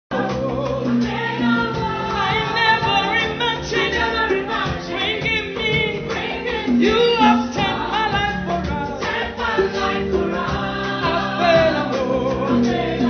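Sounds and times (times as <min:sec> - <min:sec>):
gospel singing: 0:00.1 - 0:13.0
instrumental backing music: 0:00.1 - 0:13.0.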